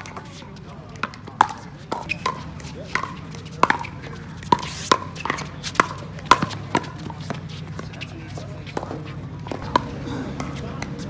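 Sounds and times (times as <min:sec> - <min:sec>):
paddles hitting plastic ball: 0:00.0 - 0:11.0.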